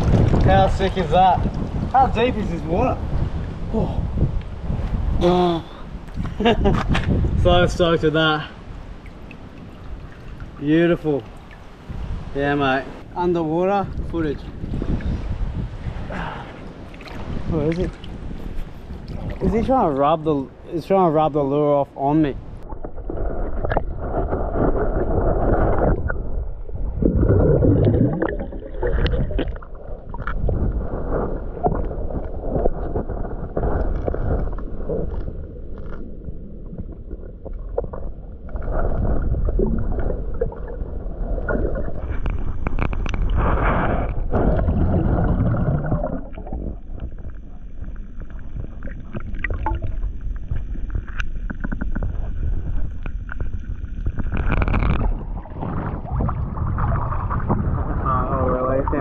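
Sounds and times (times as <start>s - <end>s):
underwater sloshing and gurgling: 0.0s - 5.2s, 5.8s - 59.0s.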